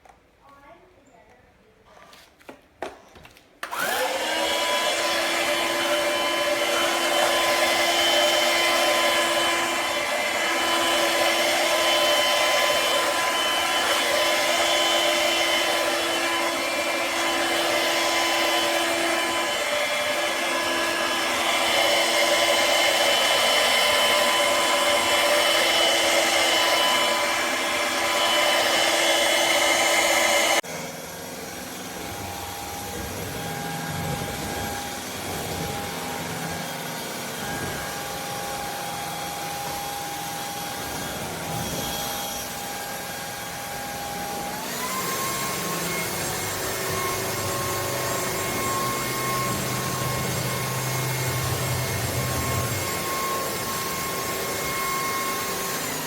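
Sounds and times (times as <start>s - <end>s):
vacuum motor whining: 3.6s - 56.0s.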